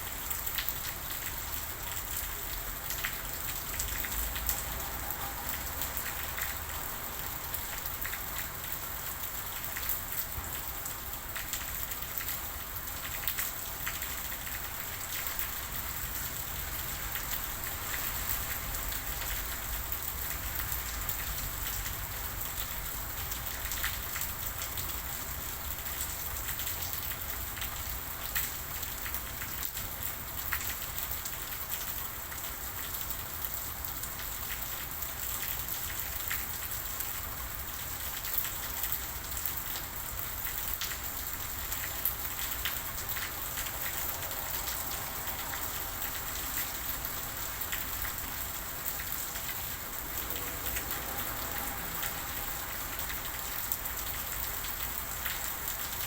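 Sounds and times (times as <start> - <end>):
rain drops ticking on a surface: 0.0 - 56.0.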